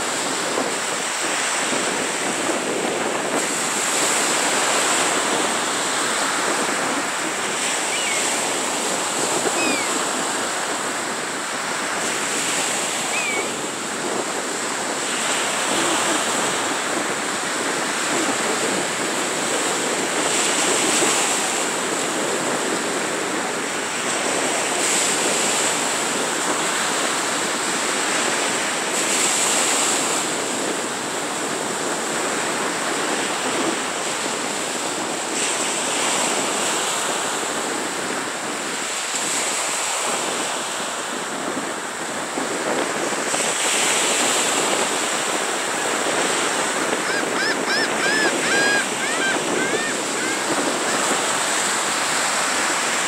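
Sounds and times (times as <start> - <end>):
waves washing up a beach: 0.0 - 53.0.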